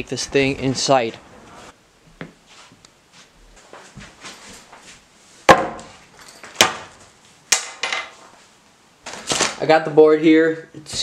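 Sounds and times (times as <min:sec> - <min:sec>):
handling knocks and shuffling: 0:00.0 - 0:09.6.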